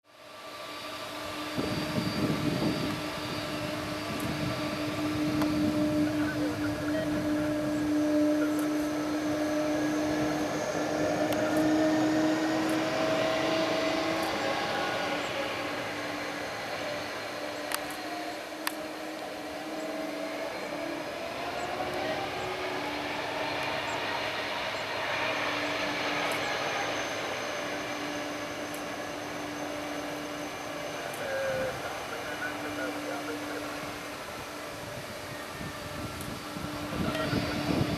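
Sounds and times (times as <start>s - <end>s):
jet engines whining: 0.1s - 37.9s.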